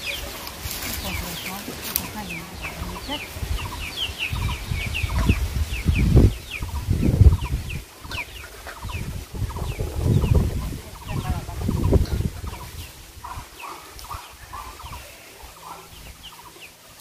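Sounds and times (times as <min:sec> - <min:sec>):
high peeping chirps: 0:00.0 - 0:16.8
chickens clucking: 0:00.0 - 0:17.0
low rumble: 0:02.5 - 0:16.6.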